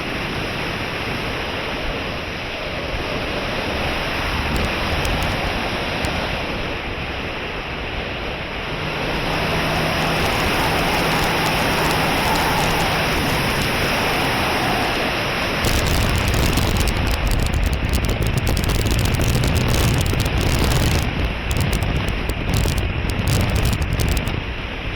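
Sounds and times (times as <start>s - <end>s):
wind rushing over microphone: 0.0s - 24.9s
wind gusts buffeting microphone: 0.9s - 24.9s.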